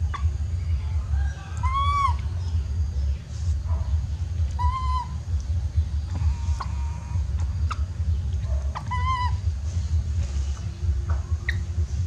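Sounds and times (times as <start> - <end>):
baby monkey calling: 0.0 - 12.0.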